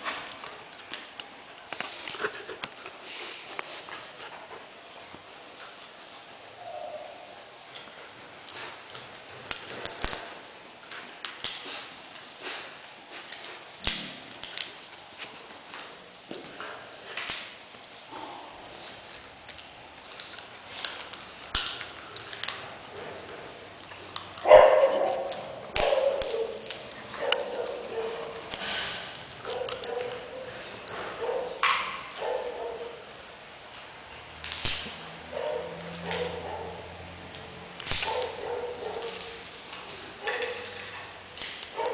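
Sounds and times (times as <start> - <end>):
puppy claws clicking on tiles: 0.0 - 4.9, 7.7 - 18.1, 18.7 - 36.4, 37.2 - 41.9.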